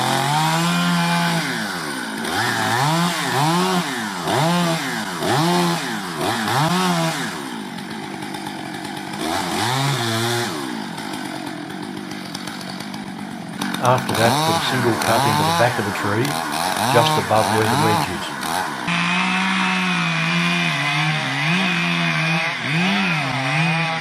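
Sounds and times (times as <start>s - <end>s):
chainsaw cutting a tree: 0.0s - 24.0s.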